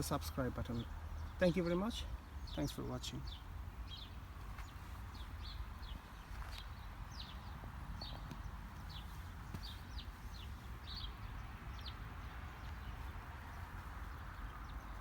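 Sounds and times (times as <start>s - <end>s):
small bird chirping: 0.7s - 15.0s.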